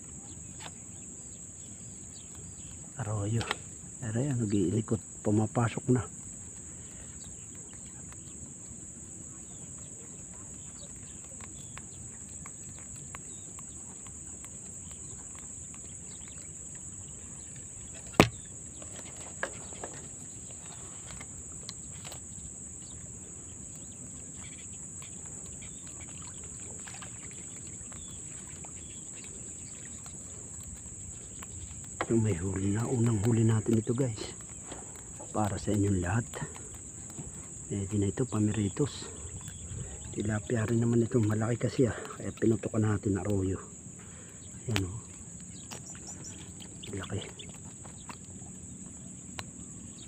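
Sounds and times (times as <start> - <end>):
crickets chirring: 0.0 - 50.0
faint ticks: 0.0 - 50.0.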